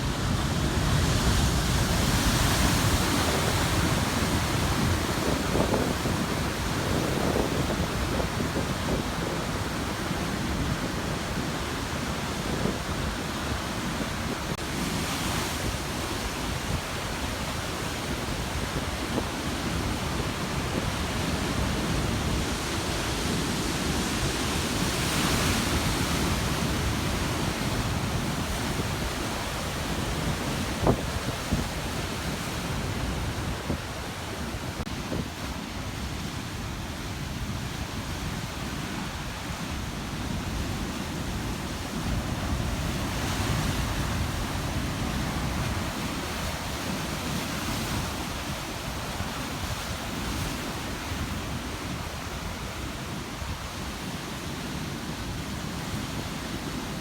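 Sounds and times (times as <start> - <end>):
surf crashing on rocky shore: 0.0 - 57.0
wind buffeting the microphone: 0.0 - 57.0.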